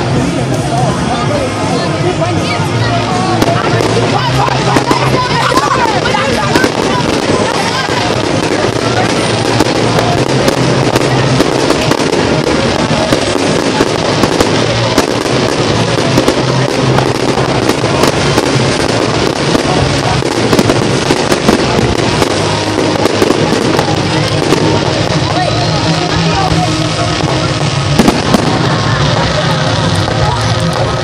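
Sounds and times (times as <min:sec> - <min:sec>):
fireworks bursting and crackling: 0:00.0 - 0:31.0
music playing: 0:00.0 - 0:31.0.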